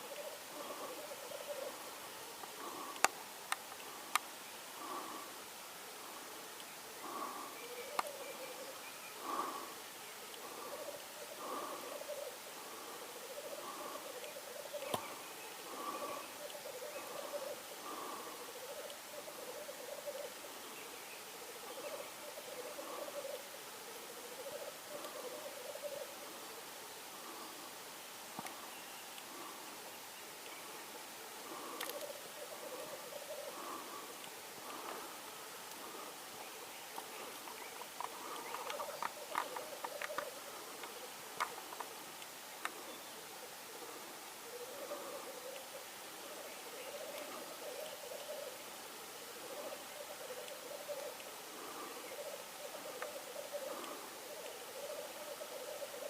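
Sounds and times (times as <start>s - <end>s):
black grouse bubbling coo: 0.0s - 28.6s, 29.2s - 56.0s.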